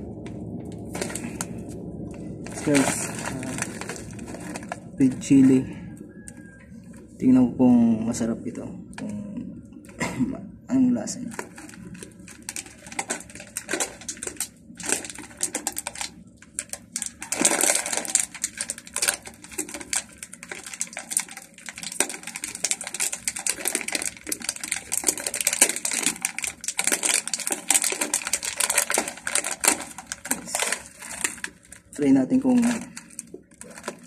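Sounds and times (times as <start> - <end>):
plastic bag crackling: 0.0 - 7.4, 11.0 - 34.0.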